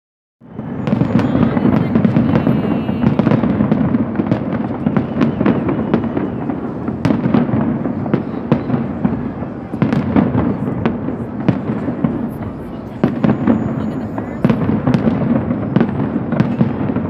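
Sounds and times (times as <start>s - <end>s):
fireworks bursts rumbling: 0.4s - 17.0s
fireworks crackling pops: 0.5s - 17.0s.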